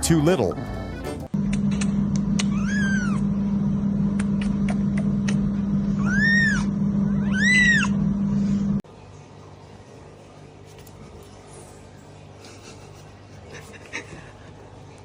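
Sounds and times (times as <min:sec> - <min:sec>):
steady low hum: 0:00.7 - 0:14.4.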